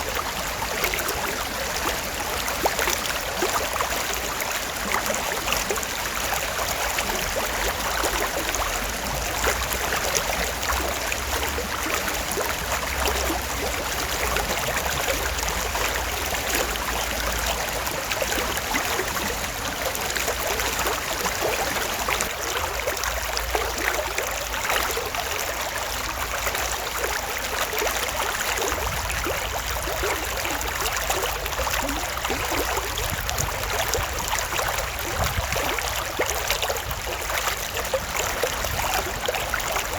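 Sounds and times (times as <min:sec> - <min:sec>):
creek water trickling over stones: 0:00.0 - 0:39.9.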